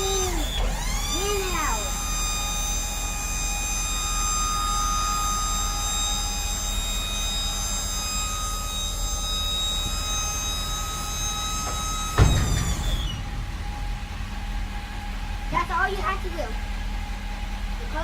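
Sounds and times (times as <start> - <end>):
hydraulic hoist whine: 0.0 - 18.0
truck engine rumble: 0.0 - 18.0.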